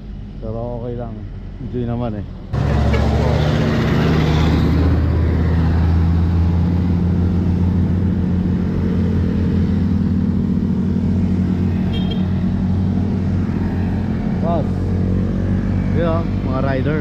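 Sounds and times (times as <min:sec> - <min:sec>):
truck diesel engine droning: 0:00.0 - 0:17.0
motorcycles passing: 0:02.4 - 0:17.0.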